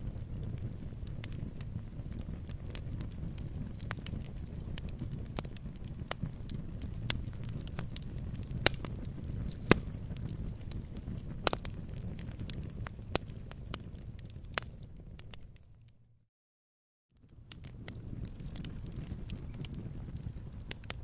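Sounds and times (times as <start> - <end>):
campfire crackling and popping: 0.0 - 16.0, 17.2 - 21.0.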